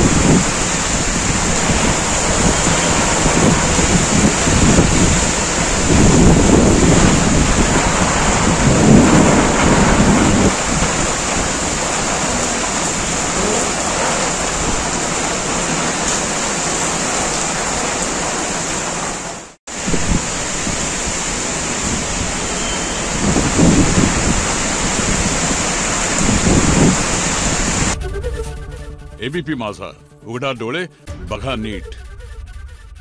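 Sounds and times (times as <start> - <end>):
thunder rumbling: 0.0 - 19.0, 19.7 - 29.2
heavy rain pouring: 0.0 - 28.4.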